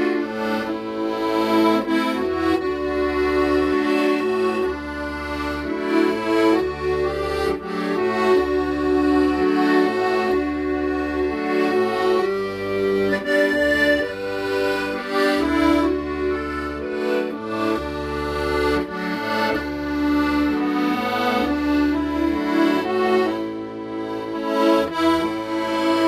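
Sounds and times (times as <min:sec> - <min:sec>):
accordion playing slow melody: 0:00.0 - 0:26.0.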